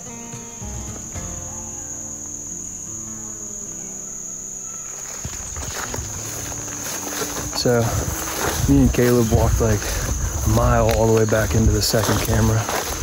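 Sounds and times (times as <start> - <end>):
insects singing: 0.0 - 13.0
soft background music: 0.0 - 13.0.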